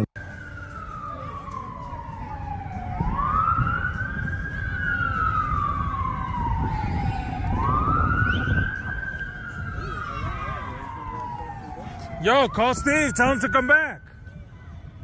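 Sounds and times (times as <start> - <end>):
emergency siren wailing: 0.0 - 15.0.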